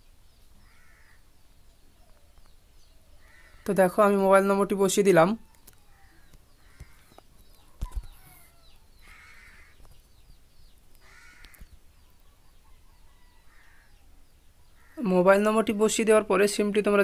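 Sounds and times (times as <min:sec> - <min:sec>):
faint harsh bird calls: 0:00.0 - 0:16.6.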